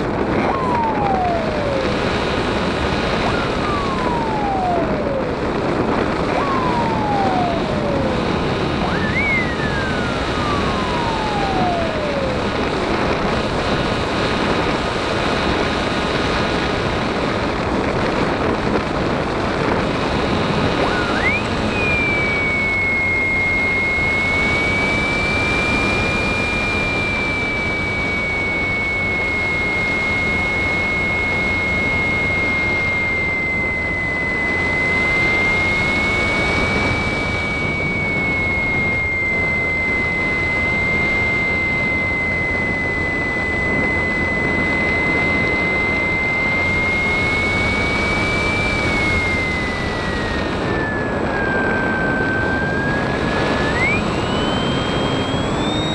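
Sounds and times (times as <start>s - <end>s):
model plane motor whining: 0.0s - 55.9s
wind rushing over microphone: 0.0s - 55.9s.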